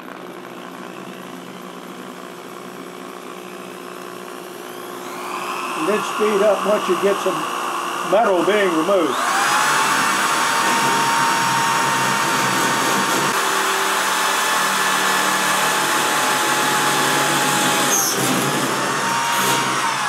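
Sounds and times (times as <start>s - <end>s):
electric drill boring through steel: 0.0s - 20.0s.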